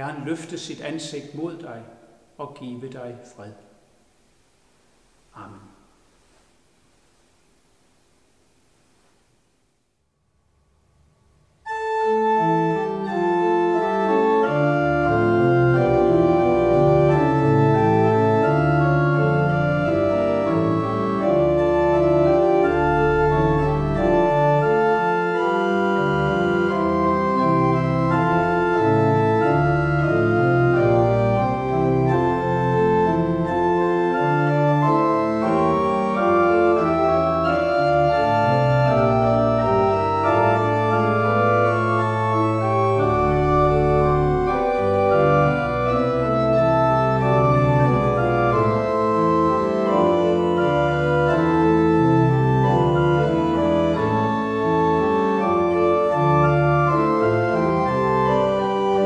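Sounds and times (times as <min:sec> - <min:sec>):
pipe organ playing chords: 0:11.6 - 0:59.0.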